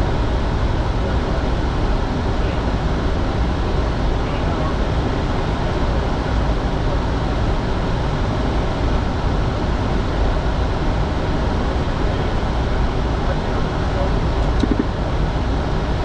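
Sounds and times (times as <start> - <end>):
jet cockpit airflow and engine noise: 0.0 - 16.0.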